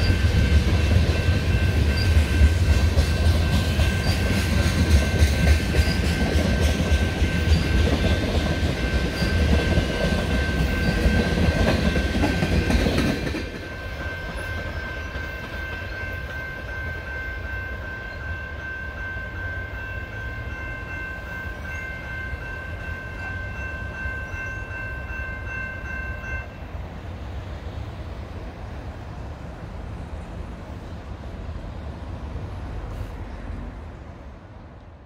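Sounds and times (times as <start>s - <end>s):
distant freight train rumbling: 0.0s - 35.0s.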